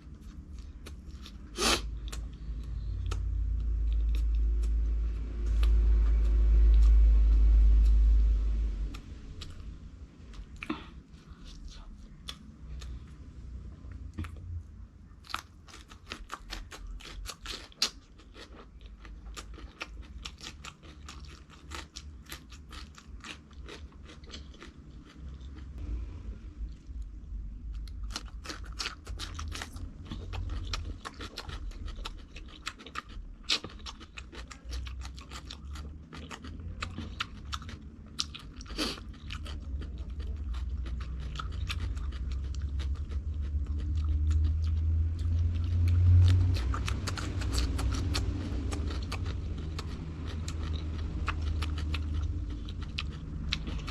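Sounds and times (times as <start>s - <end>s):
crunching and chewing crispy food: 0.0s - 13.2s, 15.2s - 25.8s, 27.7s - 53.9s.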